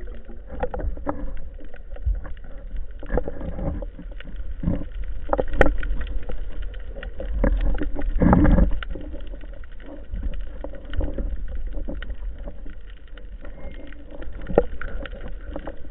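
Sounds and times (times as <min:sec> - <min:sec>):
sea water rushing and sloshing: 0:00.0 - 0:15.9.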